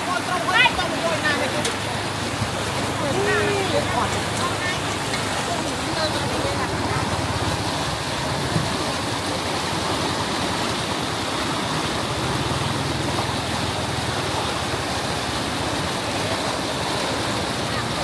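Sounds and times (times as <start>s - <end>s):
fast-flowing water rushing: 0.0s - 18.0s.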